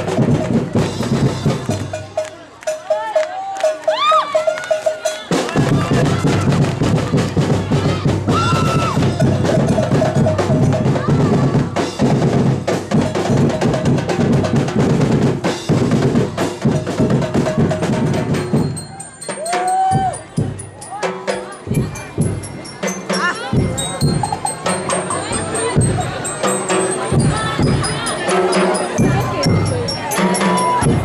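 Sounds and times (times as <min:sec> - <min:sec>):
drum-heavy music: 0:00.0 - 0:31.0.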